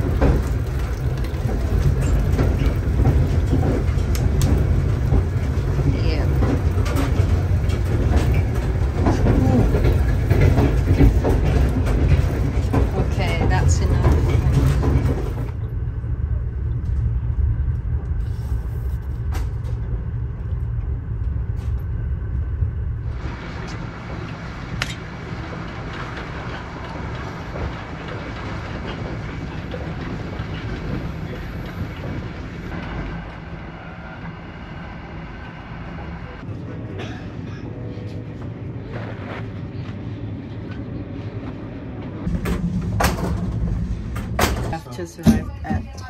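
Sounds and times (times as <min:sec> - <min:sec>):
train rumbling on track: 0:00.0 - 0:46.0.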